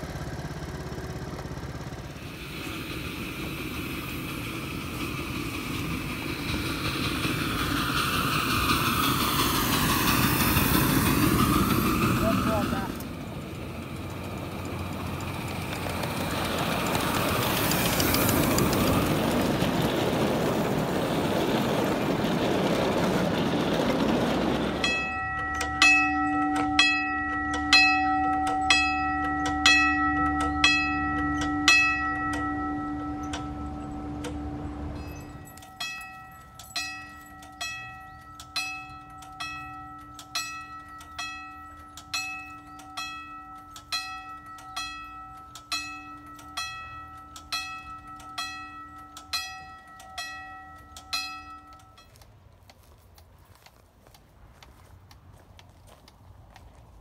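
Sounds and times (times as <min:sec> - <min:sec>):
steam locomotive rushing past: 0:00.0 - 0:52.0
crossing signal bell clanging: 0:02.1 - 0:52.2.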